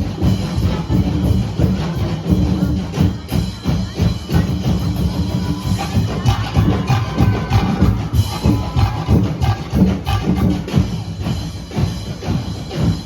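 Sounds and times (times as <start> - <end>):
drum-heavy dance music: 0.0 - 13.0.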